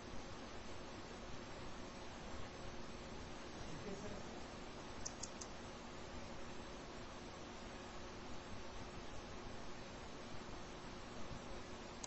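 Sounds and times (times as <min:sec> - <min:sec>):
faint low hum: 0:00.0 - 0:12.0
microphone hiss: 0:00.0 - 0:12.0.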